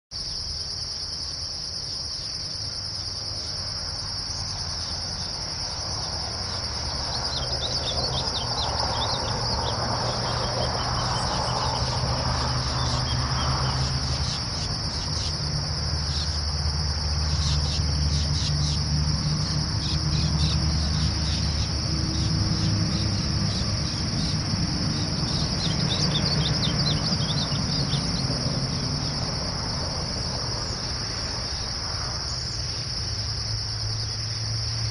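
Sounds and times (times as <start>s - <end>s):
insect trill: 0.1s - 34.9s.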